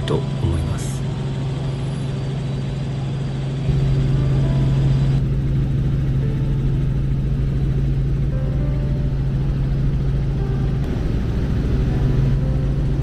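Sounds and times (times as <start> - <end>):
helicopter cabin hum: 0.0 - 13.0.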